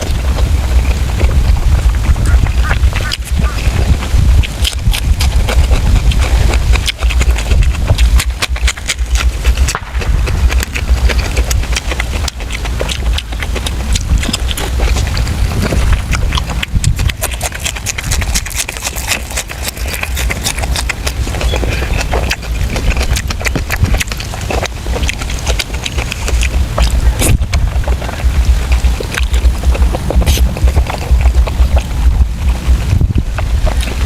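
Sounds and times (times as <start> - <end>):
chewing and mouth smacking: 0.0 - 34.0
steady low rumble: 0.0 - 34.0.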